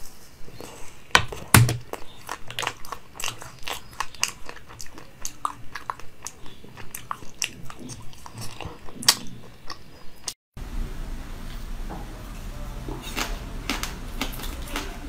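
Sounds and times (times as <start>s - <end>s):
crunching and chewing frozen dessert: 0.4s - 10.4s, 12.8s - 15.0s.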